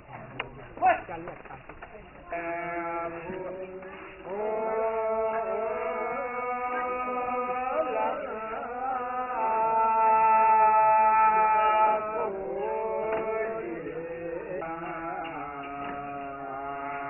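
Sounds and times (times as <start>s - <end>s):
men chanting a slow song: 2.2s - 17.0s.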